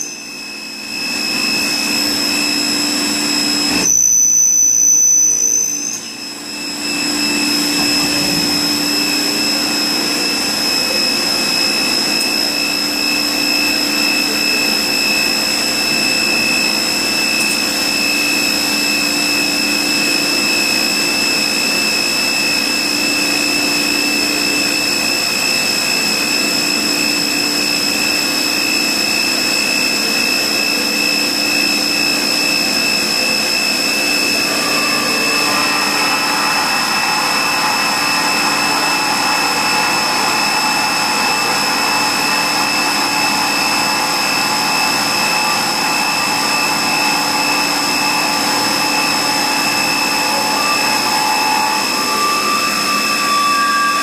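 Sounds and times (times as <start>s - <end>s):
machine whine over hiss: 0.0s - 54.0s.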